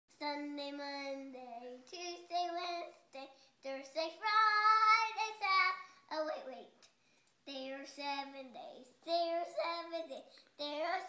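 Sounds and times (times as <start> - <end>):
girl singing unaccompanied: 0.1 - 11.0.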